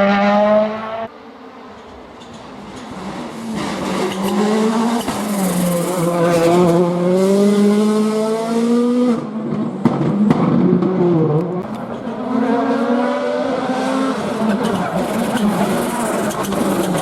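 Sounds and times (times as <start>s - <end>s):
rally car engine at full throttle: 0.0s - 1.2s, 2.3s - 17.0s.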